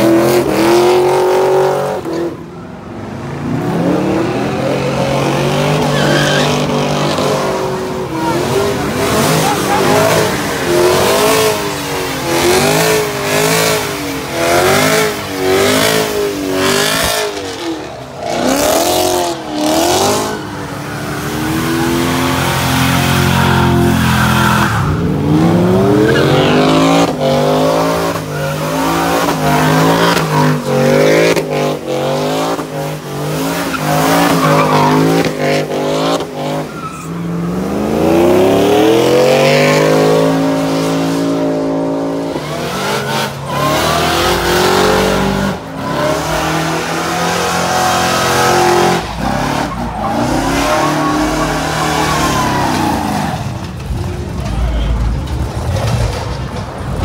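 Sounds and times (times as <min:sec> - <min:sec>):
car engine revving: 0:00.0 - 0:57.0
tires squealing: 0:03.3 - 0:57.0.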